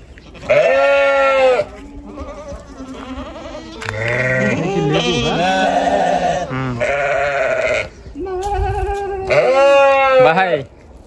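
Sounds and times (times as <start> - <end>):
goats bleating: 0.3 - 10.4.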